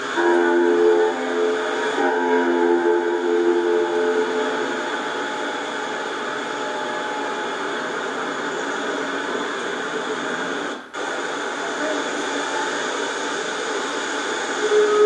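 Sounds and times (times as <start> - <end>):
model trains running: 0.0 - 15.0.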